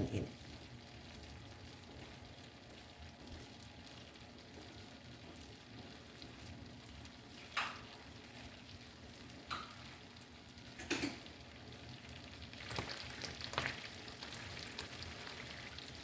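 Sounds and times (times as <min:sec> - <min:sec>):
butter sizzling in a pan: 0:00.0 - 0:16.0.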